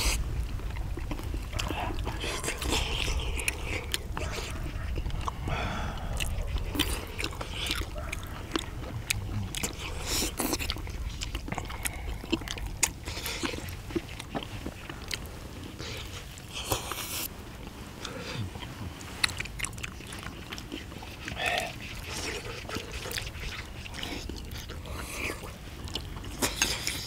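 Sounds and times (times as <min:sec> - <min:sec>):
wet mouth sounds: 0:00.0 - 0:17.3, 0:18.0 - 0:27.0
people chewing food: 0:00.0 - 0:27.0.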